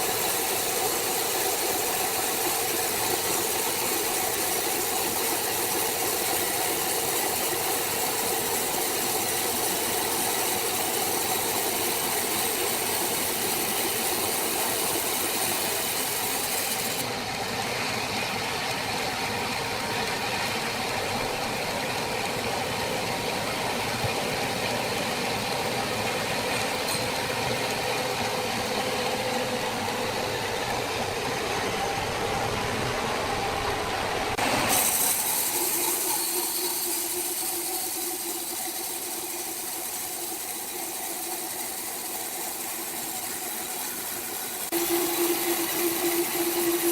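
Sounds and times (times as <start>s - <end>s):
high machinery hiss: 0.0s - 46.9s
sawmill machinery hum: 0.0s - 46.9s.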